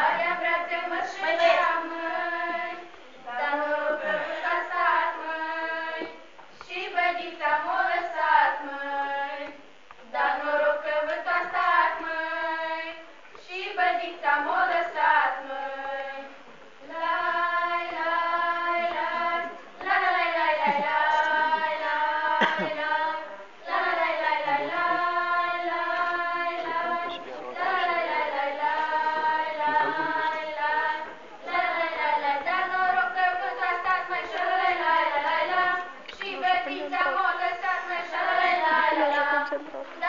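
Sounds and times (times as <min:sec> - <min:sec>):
group of women singing: 0:00.0 - 0:40.0.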